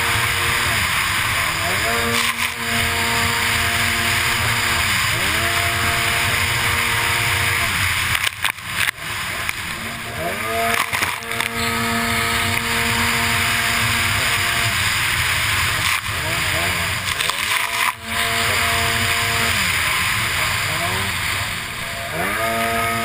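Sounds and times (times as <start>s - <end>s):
jet ski engine running hard: 0.0s - 23.0s
wind and water spray: 0.0s - 23.0s.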